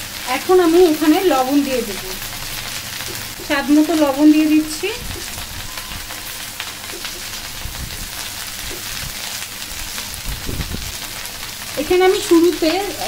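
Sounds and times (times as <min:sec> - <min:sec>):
okra sizzling in oil: 0:00.0 - 0:13.0.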